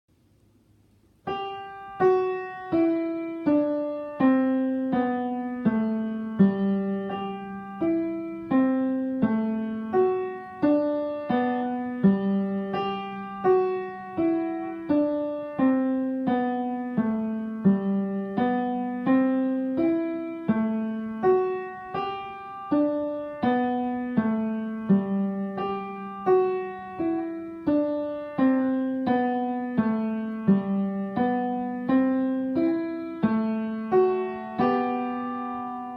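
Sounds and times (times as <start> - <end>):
slow piano piece: 0.1 - 35.9.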